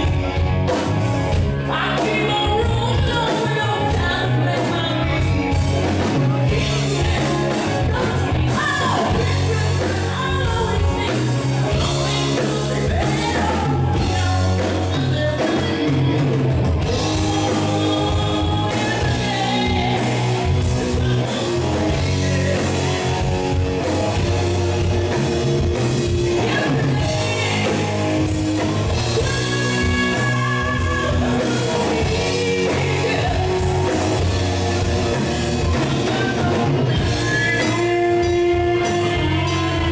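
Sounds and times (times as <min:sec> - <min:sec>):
live rock band: 0:00.0 - 0:39.9
singer singing into a microphone: 0:01.3 - 0:24.5, 0:26.0 - 0:39.9.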